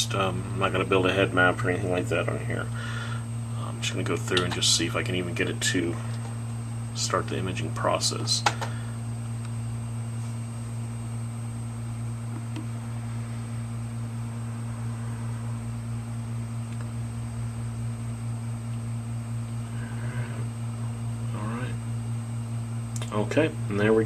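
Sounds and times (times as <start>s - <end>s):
hard drive spinning: 0.0s - 24.0s.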